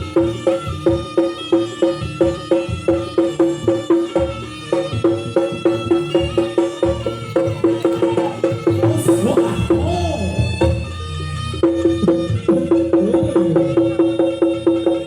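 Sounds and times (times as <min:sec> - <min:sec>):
low drumming: 0:00.0 - 0:14.1
gamelan pitched strikes: 0:00.0 - 0:15.0.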